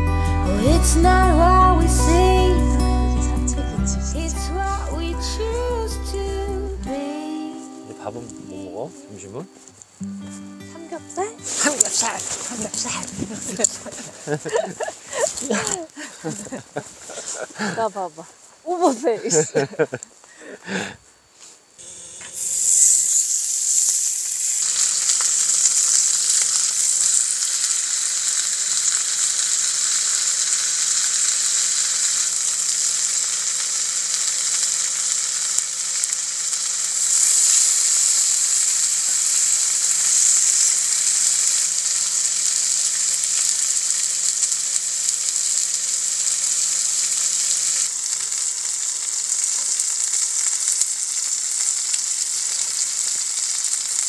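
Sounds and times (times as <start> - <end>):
meat sizzling on a griddle: 0.0 - 17.8, 20.7 - 54.0.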